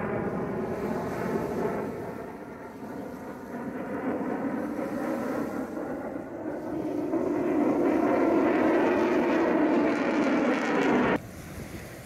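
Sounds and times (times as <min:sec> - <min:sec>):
jet engine roar: 0:00.0 - 0:11.3.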